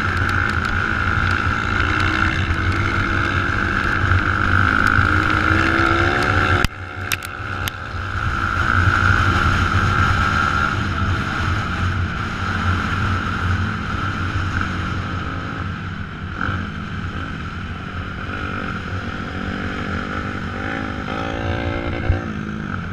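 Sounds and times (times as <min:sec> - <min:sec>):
motocross bike engine running hard: 0:00.0 - 0:22.9.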